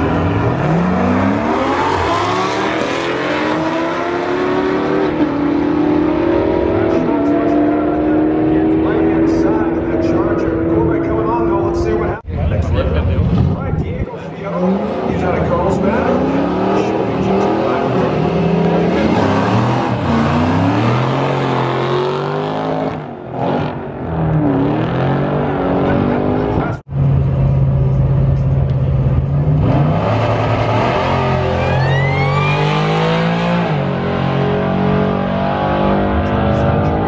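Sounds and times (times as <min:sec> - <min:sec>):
drag racing engines revving: 0:00.0 - 0:37.0.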